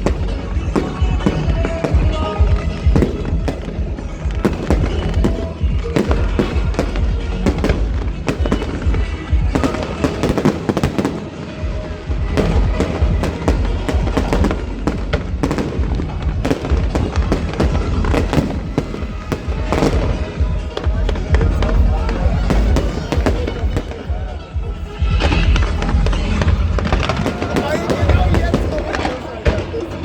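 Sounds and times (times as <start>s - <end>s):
fireworks bursts and bangs: 0.0s - 30.0s
music playing: 0.0s - 30.0s.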